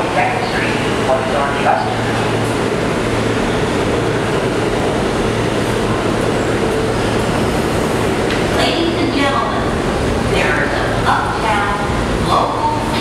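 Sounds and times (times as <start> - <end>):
train equipment hum: 0.0 - 13.0.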